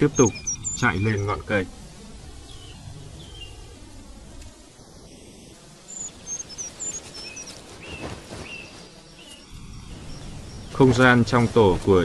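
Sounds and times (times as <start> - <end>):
forest ambience: 0.0 - 12.0
small birds chirping: 0.0 - 12.0.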